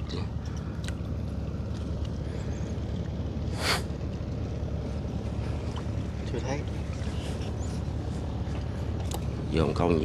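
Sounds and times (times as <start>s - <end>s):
small boat engine running: 0.0s - 10.0s.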